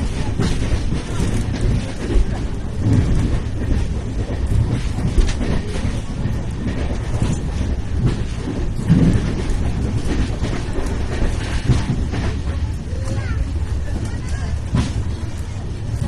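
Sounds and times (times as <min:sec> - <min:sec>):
clatter over rail joints: 0:00.0 - 0:16.0
train wheels rumbling on rails: 0:00.0 - 0:16.0.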